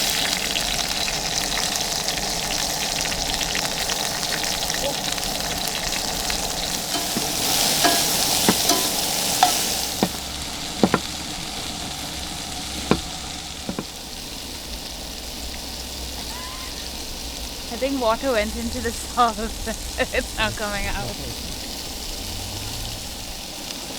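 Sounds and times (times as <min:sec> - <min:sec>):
eggs sizzling in a frying pan: 0:00.0 - 0:23.9.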